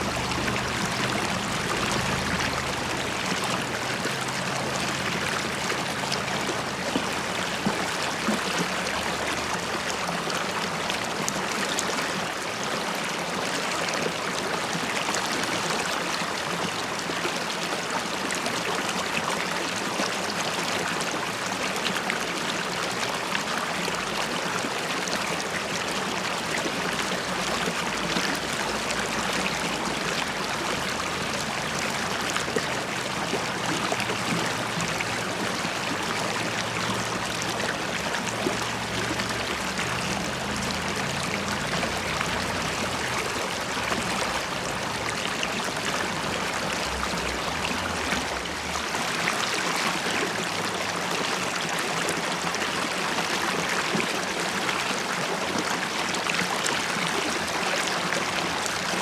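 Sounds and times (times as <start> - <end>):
river water babbling over stones: 0.0 - 59.0.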